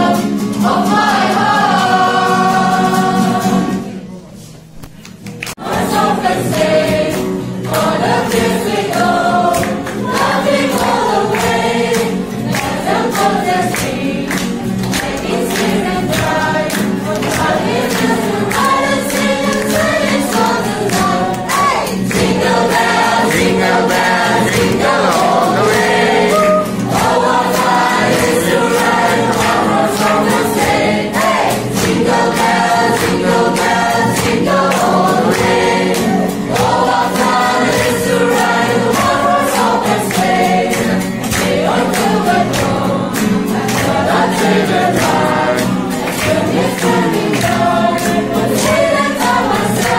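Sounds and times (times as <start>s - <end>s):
group of people singing: 0.0s - 4.5s, 5.5s - 49.9s
strummed acoustic guitar: 0.0s - 49.9s.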